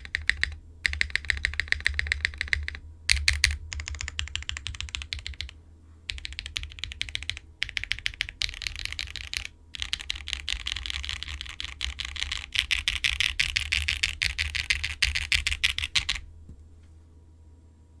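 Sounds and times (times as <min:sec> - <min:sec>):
mechanical keyboard typing: 0:00.0 - 0:16.2.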